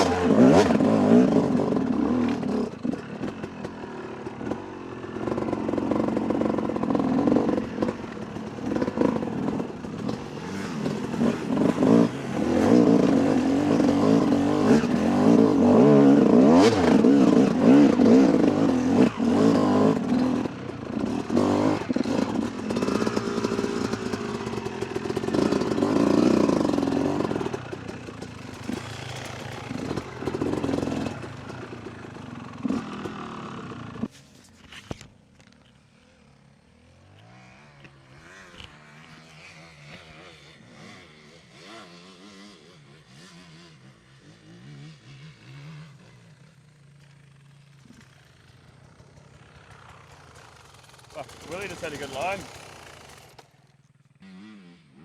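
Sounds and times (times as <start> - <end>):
dirt bike engine revving: 0.0 - 34.1, 36.7 - 55.0.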